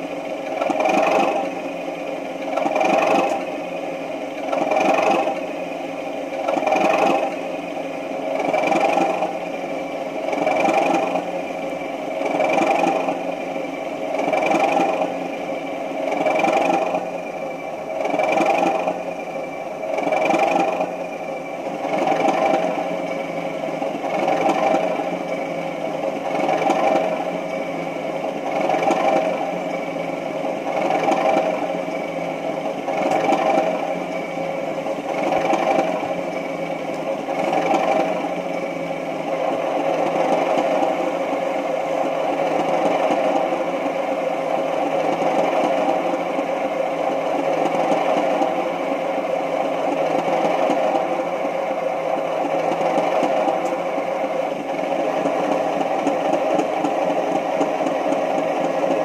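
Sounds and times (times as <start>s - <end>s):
diesel engine idling through speaker: 0.0s - 59.0s.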